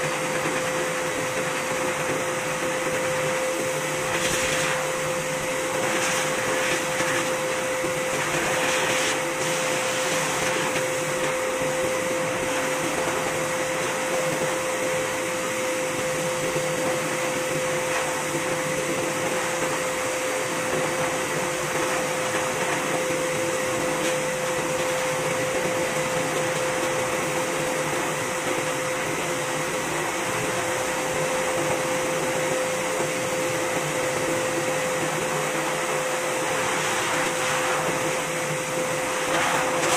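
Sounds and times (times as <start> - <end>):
blower whining air rush: 0.0 - 39.9.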